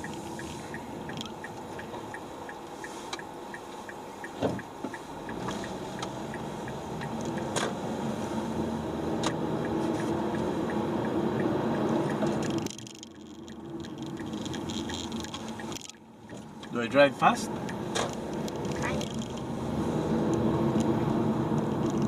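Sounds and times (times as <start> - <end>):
light ticking: 0.0 - 8.1, 9.1 - 19.5
car road and engine noise: 0.0 - 22.0.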